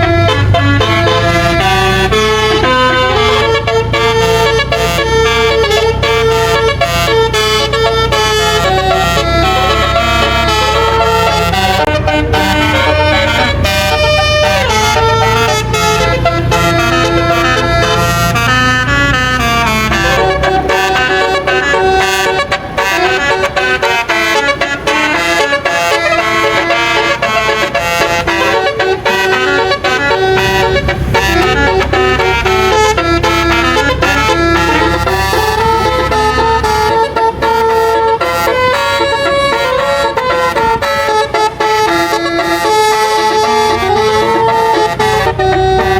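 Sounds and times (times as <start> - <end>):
bus horn playing a melody: 0.0 - 45.9
low rumble of bus engine: 0.0 - 45.9.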